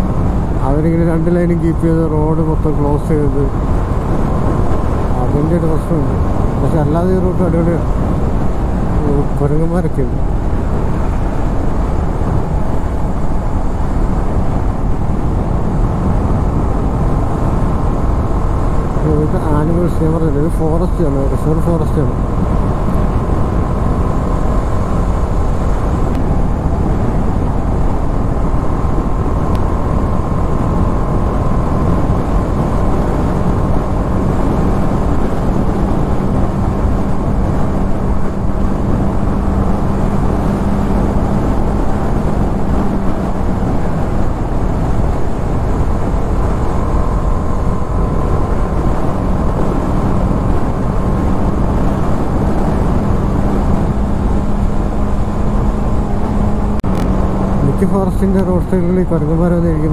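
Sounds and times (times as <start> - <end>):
motorcycle engine hum: 0.0 - 59.9
wind and road noise: 0.0 - 59.9.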